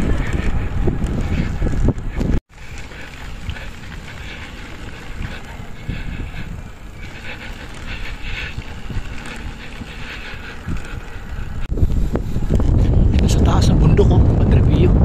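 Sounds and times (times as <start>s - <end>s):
tyres rumbling on paved road: 0.0s - 15.0s
wind buffeting the microphone: 0.0s - 15.0s.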